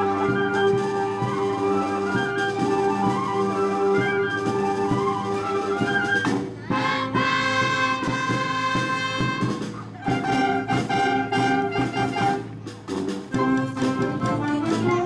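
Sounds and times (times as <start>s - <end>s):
drum beats: 0.0s - 15.0s
wind band playing: 0.0s - 15.0s.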